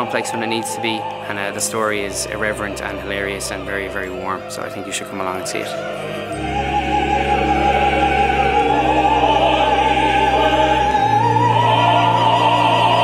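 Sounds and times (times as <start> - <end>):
operatic voice singing: 0.0 - 13.0
orchestra playing low notes: 0.0 - 13.0.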